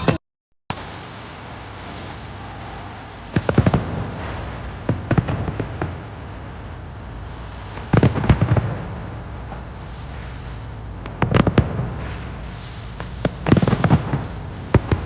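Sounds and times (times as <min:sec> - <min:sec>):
fireworks bangs: 0:00.8 - 0:06.7, 0:07.4 - 0:15.0
steady background noise: 0:00.8 - 0:15.0.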